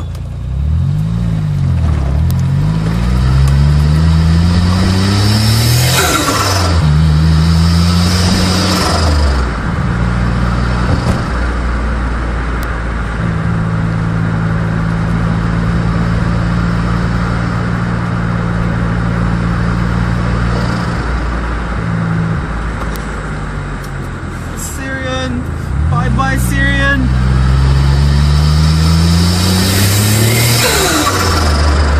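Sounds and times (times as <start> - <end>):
car engine pulling through gears: 0.0 - 31.9.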